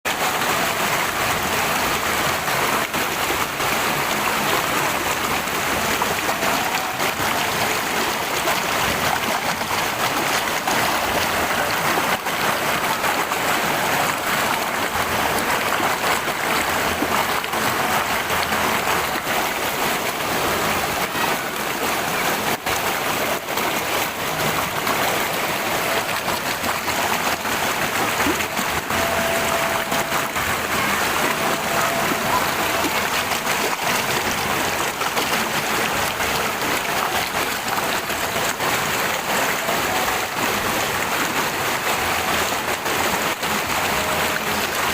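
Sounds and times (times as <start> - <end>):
stream water flowing: 0.1 - 44.9.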